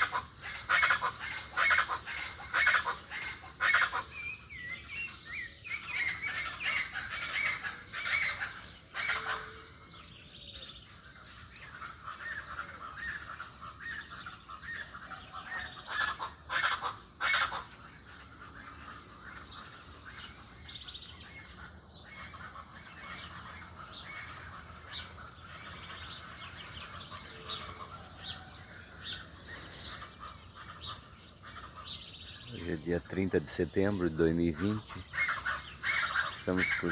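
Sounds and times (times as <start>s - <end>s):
small birds chirping and trilling: 0.0s - 36.9s.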